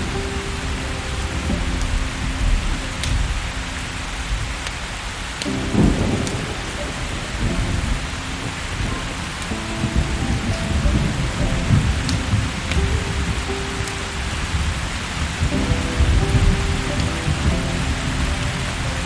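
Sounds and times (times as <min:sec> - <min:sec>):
heavy rain: 0:00.0 - 0:19.0
low thunder rumbling: 0:00.0 - 0:19.0.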